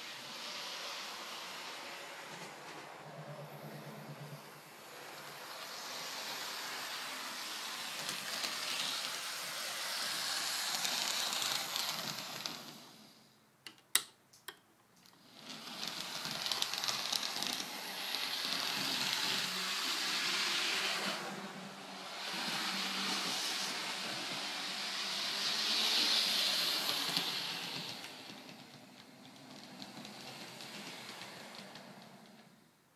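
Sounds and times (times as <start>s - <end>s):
train running with loud hiss: 0.0s - 13.3s, 15.2s - 32.5s.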